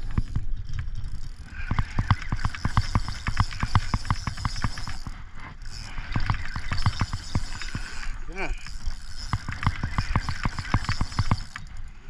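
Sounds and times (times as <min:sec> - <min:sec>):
fishing reel clicking rapidly: 0:00.0 - 0:11.8.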